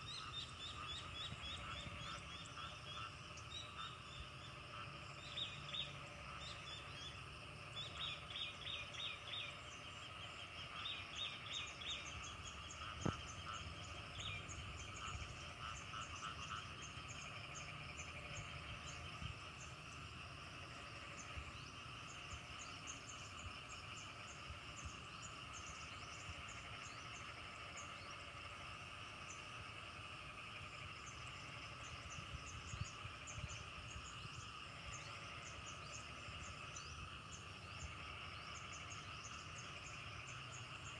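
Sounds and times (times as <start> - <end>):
frogs and insects trilling: 0.0 - 40.9.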